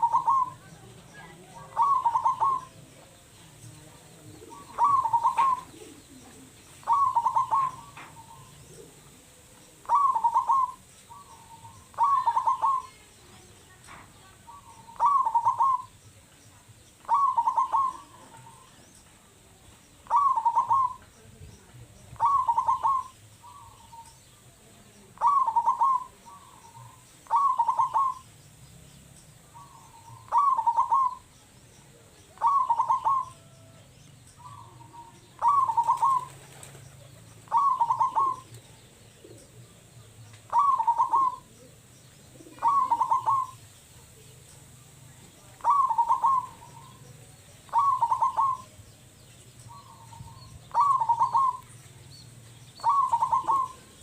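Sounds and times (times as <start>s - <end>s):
dove cooing: 0.0s - 13.4s, 14.2s - 16.0s, 17.0s - 18.8s, 20.0s - 21.3s, 22.1s - 28.3s, 29.4s - 44.3s, 45.2s - 48.9s, 49.7s - 51.8s, 52.8s - 54.0s.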